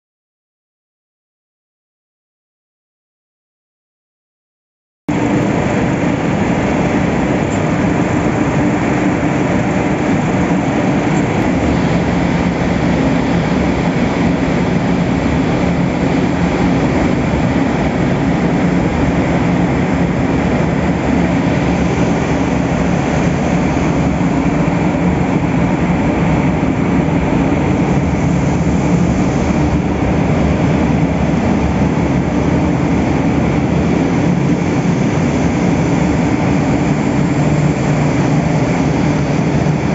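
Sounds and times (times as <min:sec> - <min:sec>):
machinery humming: 0:05.1 - 0:39.9.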